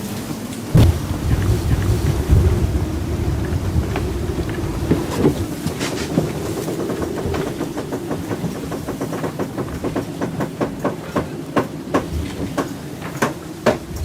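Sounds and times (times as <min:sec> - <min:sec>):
wind and water rushing: 0:00.0 - 0:14.0
rapid clicking and knocking: 0:00.8 - 0:14.0.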